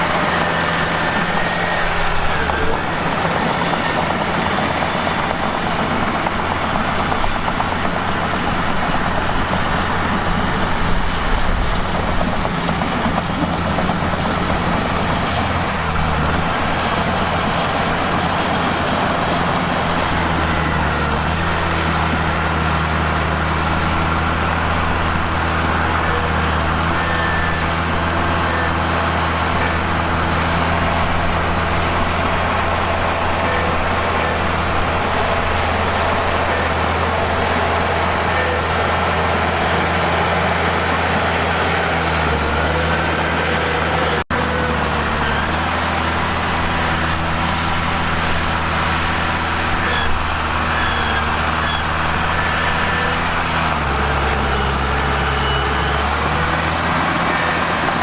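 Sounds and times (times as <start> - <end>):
diesel engine running under load: 0.0 - 58.0
machine grinding noise: 0.0 - 58.0.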